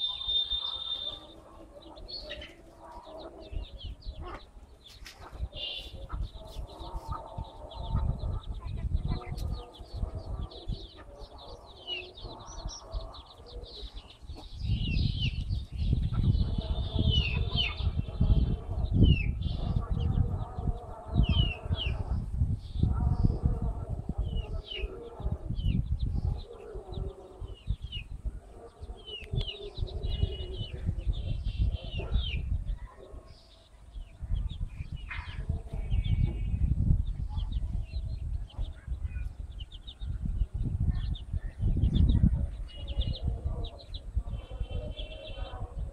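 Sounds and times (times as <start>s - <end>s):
chicks peeping: 0.0s - 45.9s
low rumbling microphone noise: 1.3s - 45.9s.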